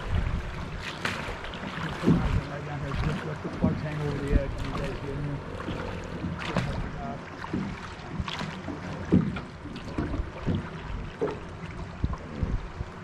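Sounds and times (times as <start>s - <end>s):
wind on microphone: 0.0s - 8.5s, 9.1s - 13.0s
river current wash: 0.0s - 13.0s
water slapping against metal boat hull: 0.0s - 13.0s
water splashes: 0.0s - 13.0s.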